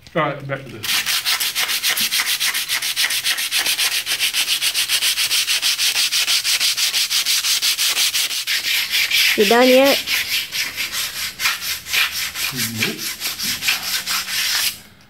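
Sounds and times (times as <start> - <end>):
sandpaper rubbing on metal: 0.8 - 14.8.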